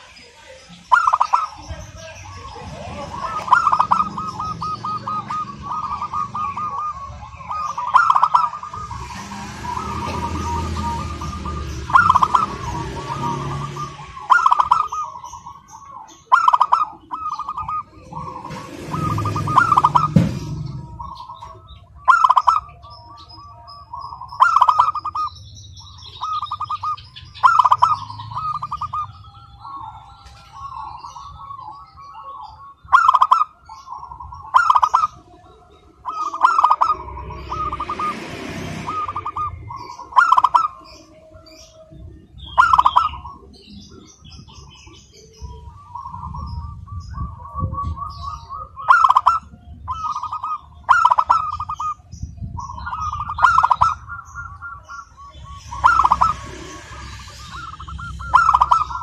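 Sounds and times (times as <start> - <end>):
dove cooing: 0.9 - 59.0.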